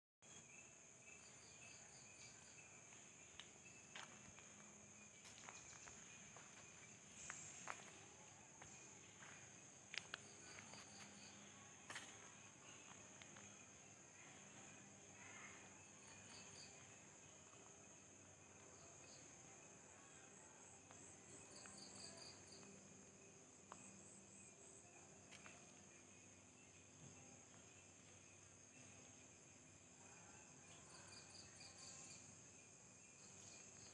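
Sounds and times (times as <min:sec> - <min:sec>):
insect drone: 0:00.2 - 0:33.9.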